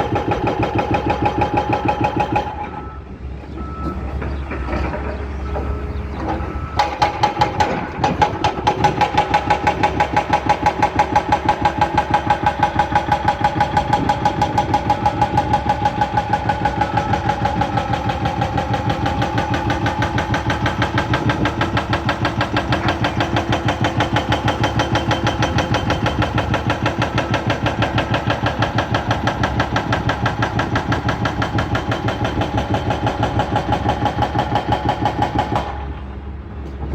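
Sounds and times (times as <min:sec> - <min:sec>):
hydraulic breaker hammering: 0:00.0 - 0:02.9, 0:04.3 - 0:36.2
excavator engine running: 0:00.0 - 0:36.9.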